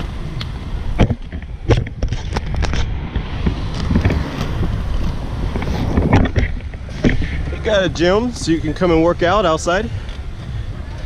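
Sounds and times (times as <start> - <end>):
wind on microphone: 0.0 - 9.2
skate wheels rolling on concrete: 0.0 - 11.0.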